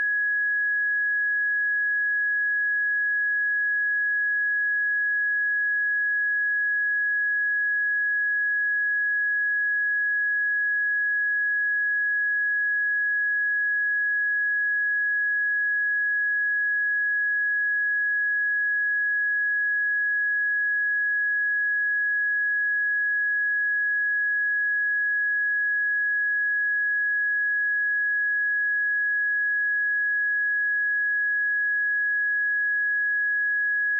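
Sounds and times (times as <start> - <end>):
sine wave test tone: 0.0 - 33.9.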